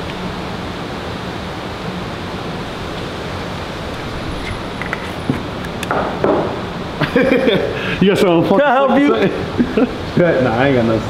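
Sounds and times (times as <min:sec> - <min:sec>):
rushing ventilation noise: 0:00.0 - 0:11.0.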